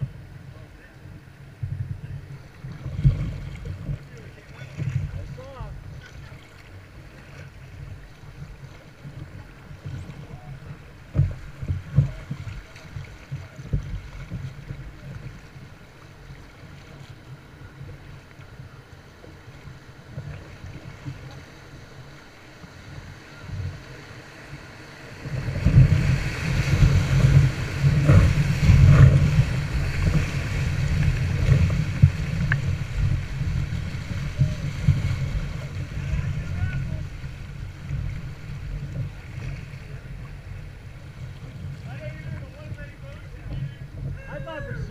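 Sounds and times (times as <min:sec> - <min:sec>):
rushing river water: 0:00.0 - 0:44.9
water splashes: 0:00.0 - 0:44.9
wind buffeting microphone: 0:00.0 - 0:44.9.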